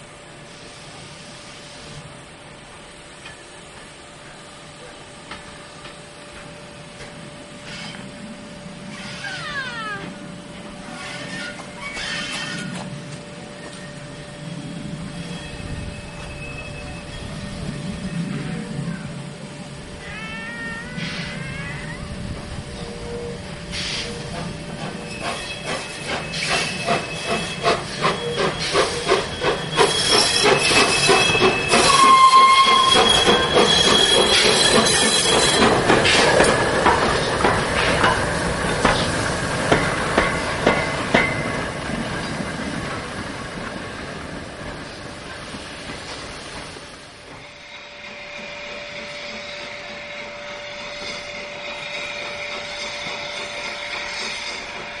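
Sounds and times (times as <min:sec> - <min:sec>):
steam hiss: 0:00.0 - 0:43.6, 0:44.2 - 0:55.0
steam locomotive exhaust beats: 0:00.0 - 0:55.0.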